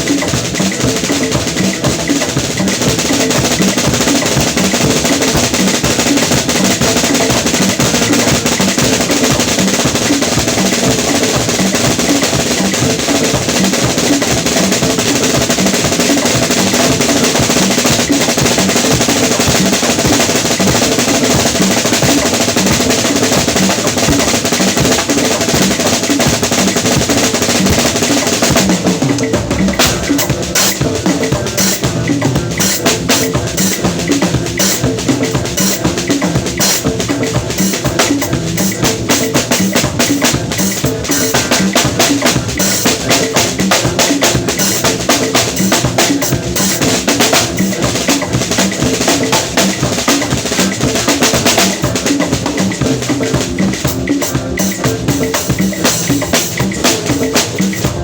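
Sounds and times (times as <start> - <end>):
drum kit played fast: 0.0 - 58.0.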